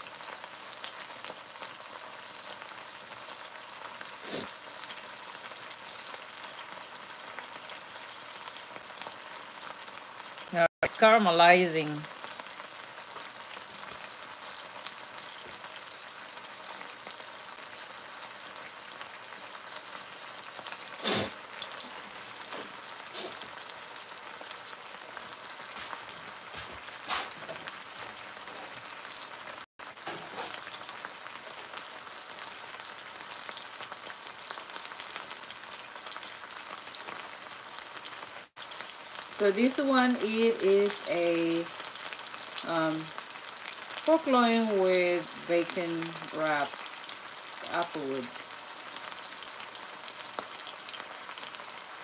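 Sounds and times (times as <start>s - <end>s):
meat sizzling in a skillet: 0.0s - 52.0s.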